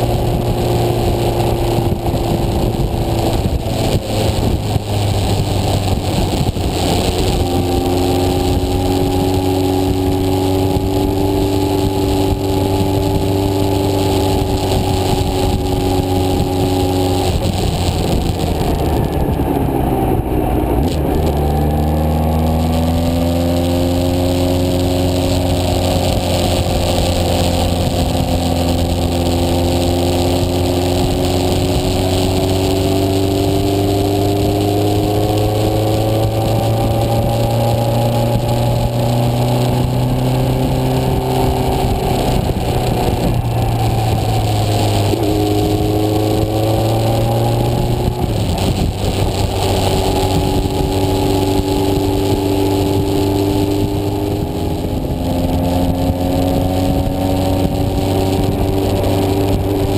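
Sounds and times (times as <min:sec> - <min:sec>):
motorcycle engine running: 0:00.0 - 0:59.9
wind rush: 0:00.0 - 0:59.9.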